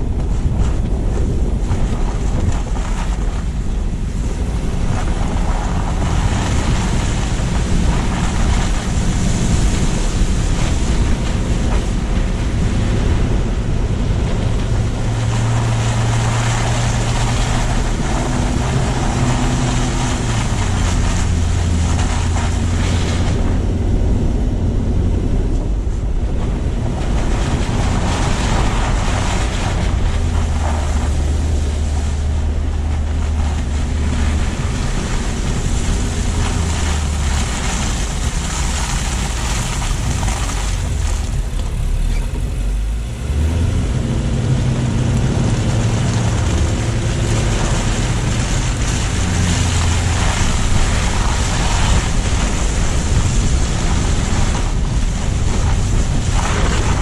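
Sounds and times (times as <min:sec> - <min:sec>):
low drone: 0:00.0 - 0:57.0
road and tyre noise: 0:00.0 - 0:57.0
wind buffeting microphone: 0:00.0 - 0:57.0.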